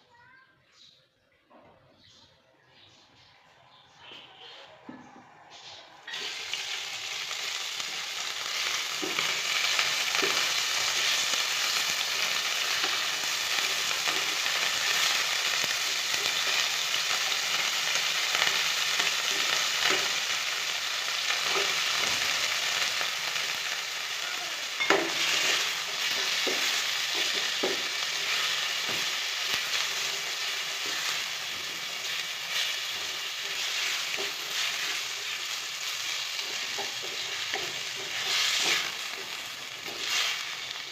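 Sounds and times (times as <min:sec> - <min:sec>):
food sizzling in oil: 0:06.1 - 0:40.9.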